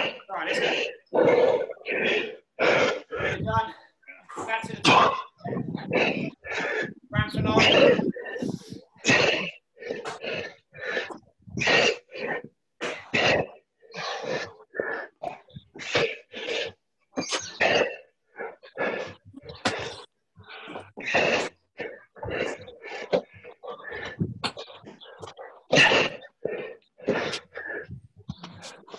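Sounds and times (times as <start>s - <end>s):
person breathing hard: 0.0s - 16.8s, 17.5s - 28.9s.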